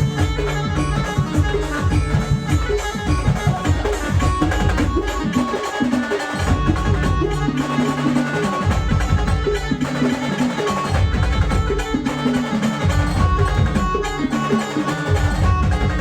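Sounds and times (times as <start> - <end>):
driving drum beat: 0.0 - 16.0.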